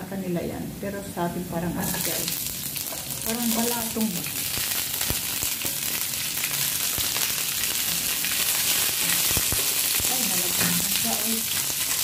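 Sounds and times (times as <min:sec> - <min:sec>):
vegetables sizzling in oil: 0:00.8 - 0:12.0.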